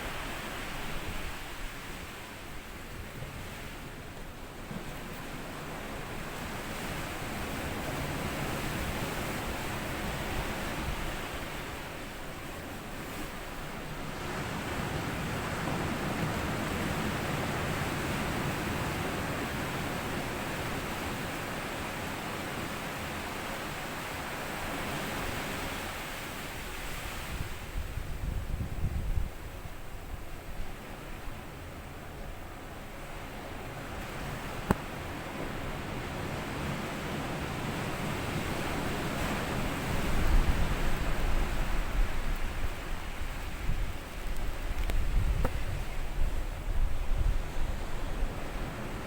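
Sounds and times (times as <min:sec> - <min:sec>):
sea waves washing over sand: 0:00.0 - 0:49.0.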